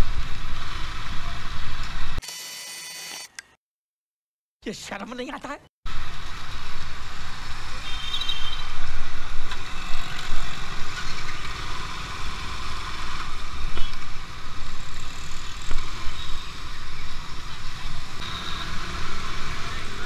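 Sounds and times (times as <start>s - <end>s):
road noise: 0.0s - 2.2s, 5.9s - 20.0s.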